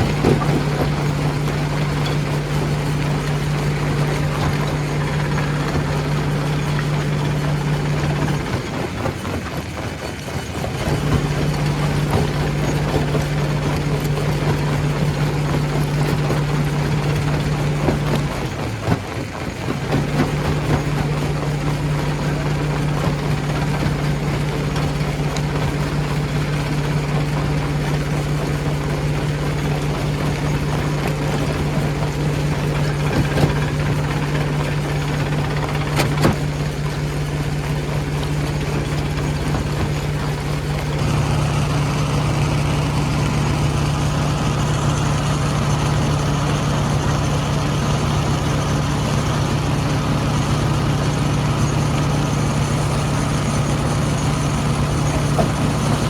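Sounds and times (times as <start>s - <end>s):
machinery humming: 0.0s - 56.0s
stone crusher rumbling: 0.0s - 56.0s.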